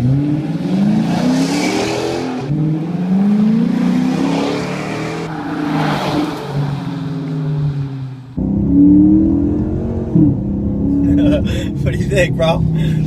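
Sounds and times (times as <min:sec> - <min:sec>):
car engine accelerating through gears: 0:00.0 - 0:13.0.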